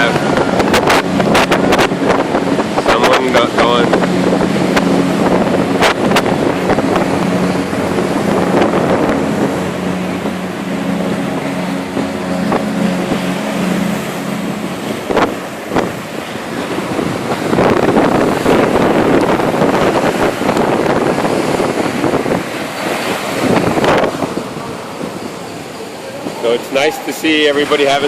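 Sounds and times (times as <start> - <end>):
boat engine droning: 0.0 - 28.0
wind noise on microphone: 0.0 - 28.0.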